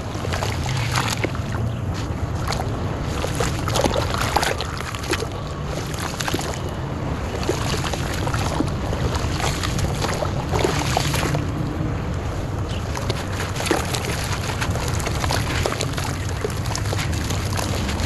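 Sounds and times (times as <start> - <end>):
small crackles and drips: 0.0 - 18.0
steady low rumble: 0.0 - 18.0
water sloshing in a basin: 0.0 - 18.0.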